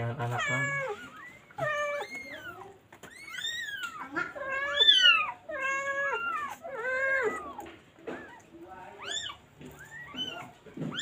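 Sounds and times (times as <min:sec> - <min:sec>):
cat meowing: 0:00.1 - 0:11.0.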